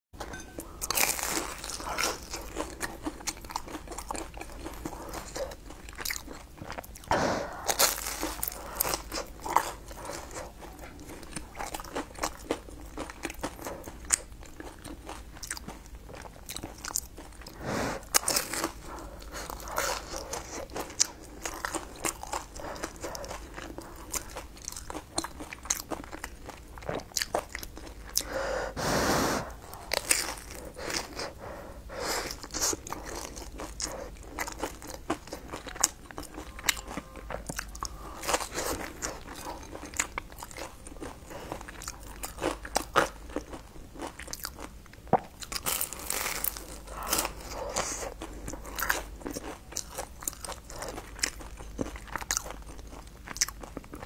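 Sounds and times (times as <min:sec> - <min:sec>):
crunching and chewing food: 0:00.2 - 0:28.8, 0:29.4 - 0:54.0.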